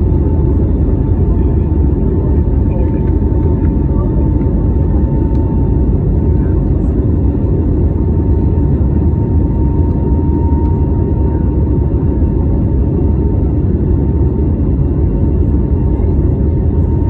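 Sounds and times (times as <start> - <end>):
jet engine and airflow roar: 0.0 - 17.0.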